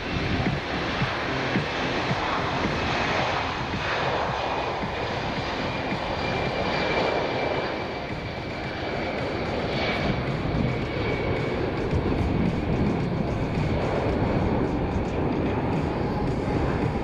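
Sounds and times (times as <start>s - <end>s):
jet engine roar with whine: 0.0s - 17.0s.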